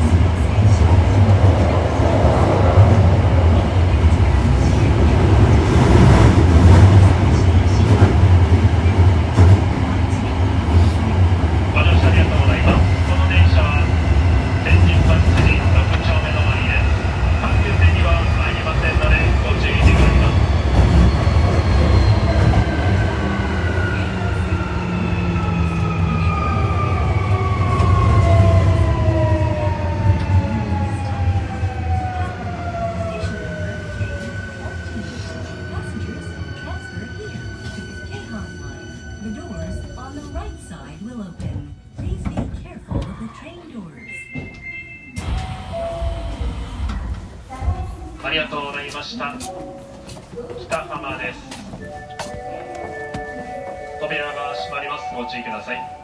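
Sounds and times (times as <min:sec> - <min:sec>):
subway train rumbling in tunnel: 0:00.0 - 0:56.0.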